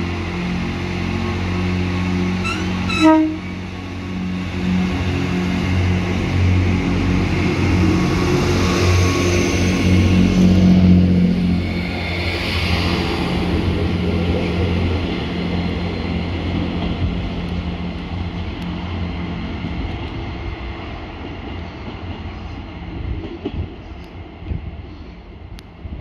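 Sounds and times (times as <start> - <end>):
diesel train engine drone: 0.0 - 26.0
rail rumble: 0.0 - 26.0.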